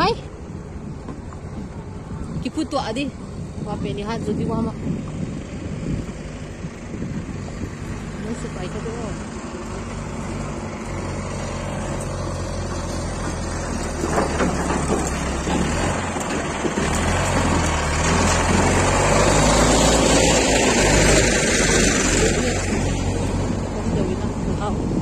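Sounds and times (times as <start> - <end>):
vehicle engine moving slowly: 0.0 - 25.0.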